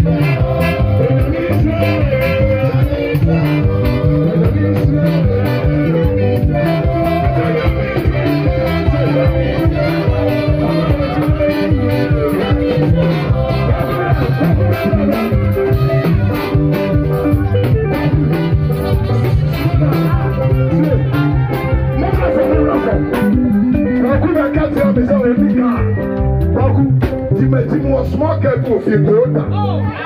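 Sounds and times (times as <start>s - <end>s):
trombone: 0.0s - 25.2s
saxophone: 0.0s - 26.6s
bass line: 0.0s - 30.0s
live band music: 0.0s - 30.0s.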